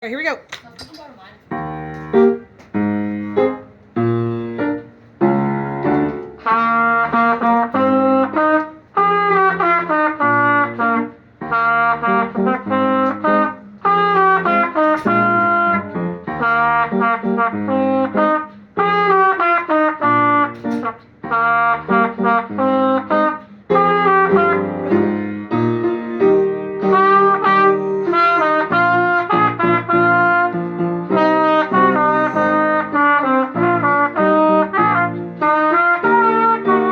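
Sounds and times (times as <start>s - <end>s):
piano accompaniment: 1.4s - 36.9s
solo trumpet melody: 1.5s - 36.9s.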